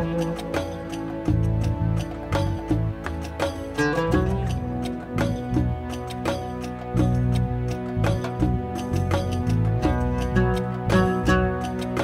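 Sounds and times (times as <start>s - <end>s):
plucked notes over bass: 0.0s - 12.0s.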